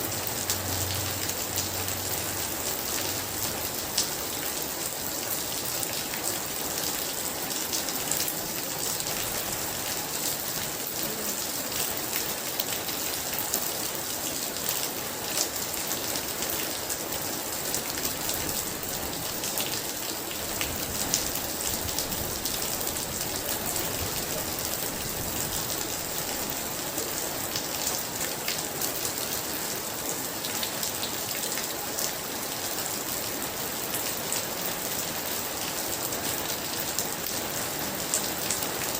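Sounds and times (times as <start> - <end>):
heavy rain on hard surface: 0.0 - 38.9.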